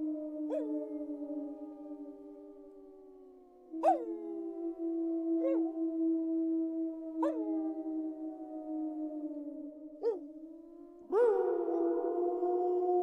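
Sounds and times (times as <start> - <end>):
wolves howling: 0.0 - 13.0.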